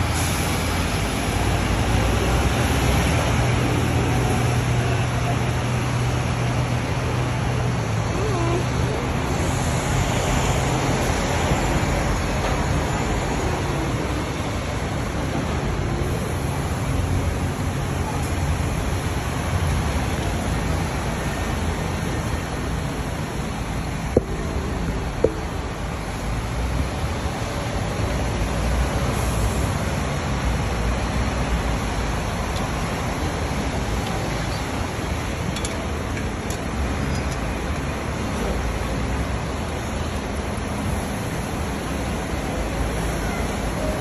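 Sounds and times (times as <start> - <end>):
bus engine rumble: 0.0 - 44.0
traffic noise: 0.0 - 44.0.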